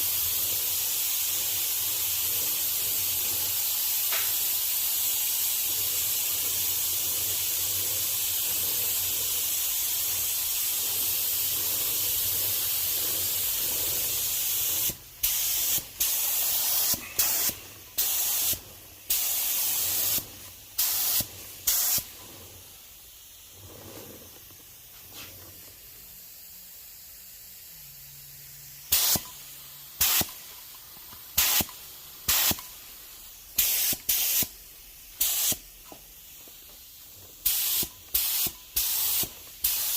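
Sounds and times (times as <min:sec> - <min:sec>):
paint spray hissing: 0:00.0 - 0:39.9.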